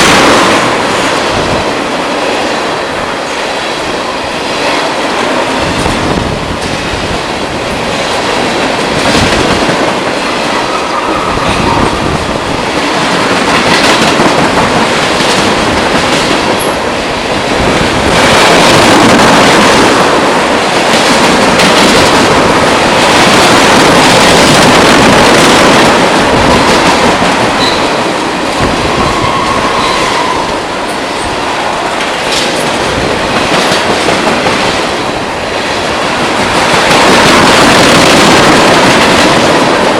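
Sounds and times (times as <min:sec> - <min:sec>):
train cars rumbling past: 0:00.0 - 0:39.9
wheels clickety-clack on rails: 0:00.0 - 0:39.9.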